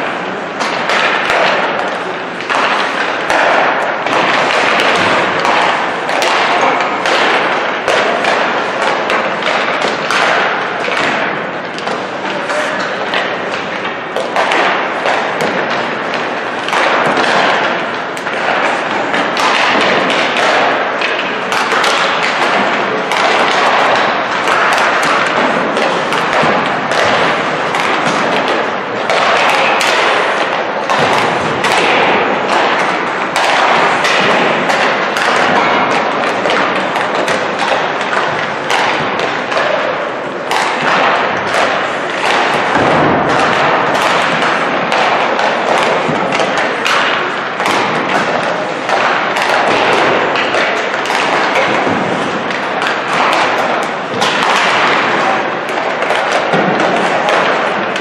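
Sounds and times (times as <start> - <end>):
hockey pucks hitting sticks and boards: 0.0 - 58.0.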